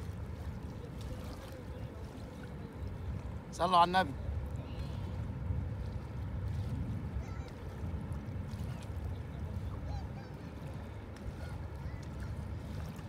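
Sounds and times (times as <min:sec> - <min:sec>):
water at shore: 0:00.0 - 0:13.0
wind buffeting microphone: 0:00.0 - 0:13.0.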